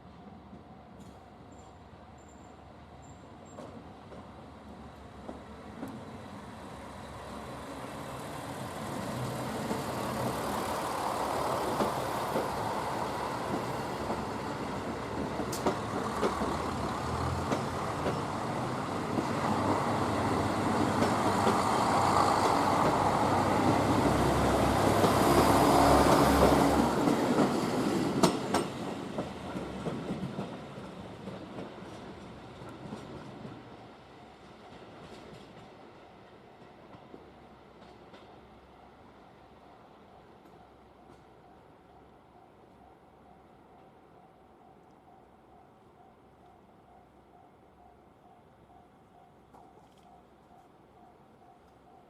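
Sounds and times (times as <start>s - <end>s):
train rumbling past: 0.0s - 52.0s.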